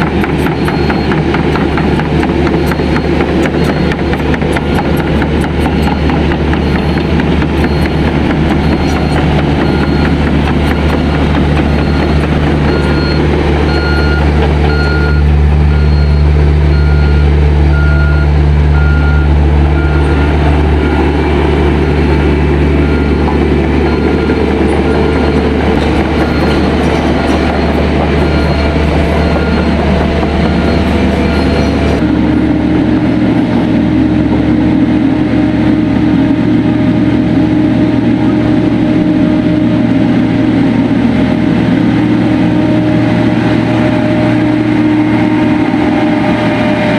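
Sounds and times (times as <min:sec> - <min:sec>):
reversing alarm beeping: 0:00.0 - 0:32.0, 0:41.3 - 0:46.9
diesel engine running: 0:00.0 - 0:46.9.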